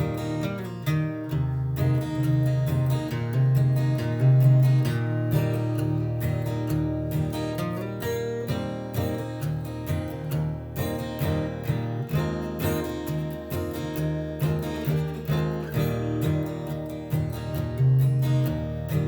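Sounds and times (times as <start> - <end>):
acoustic guitar strummed and picked: 0.0 - 19.0.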